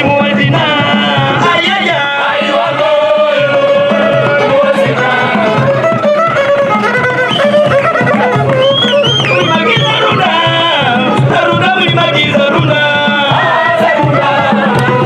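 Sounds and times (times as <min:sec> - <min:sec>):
steady drum beat: 0:00.0 - 0:15.0
voices singing folk song: 0:00.0 - 0:15.0.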